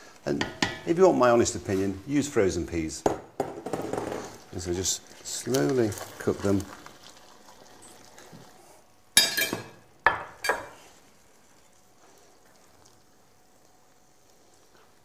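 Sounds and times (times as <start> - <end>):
simmering pot hiss: 0.0 - 15.0.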